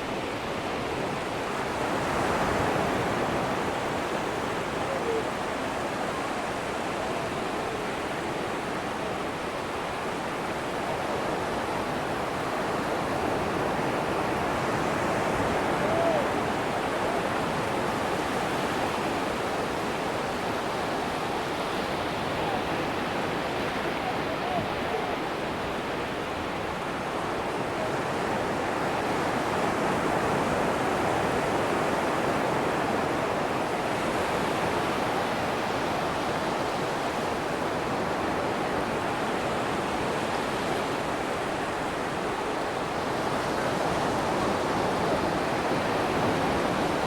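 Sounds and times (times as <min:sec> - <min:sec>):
waves breaking on beach: 0:00.0 - 0:47.0.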